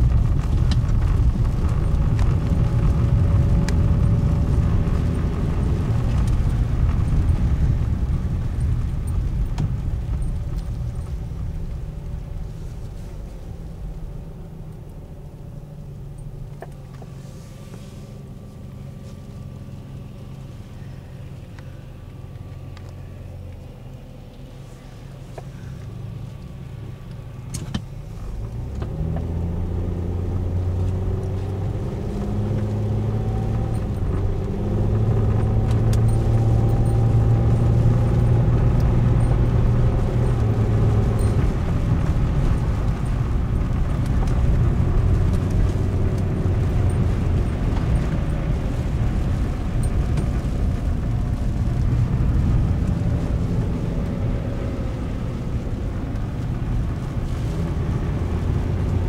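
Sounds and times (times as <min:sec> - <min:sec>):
car engine from inside cabin: 0:00.0 - 0:59.0
road noise: 0:00.0 - 0:59.0.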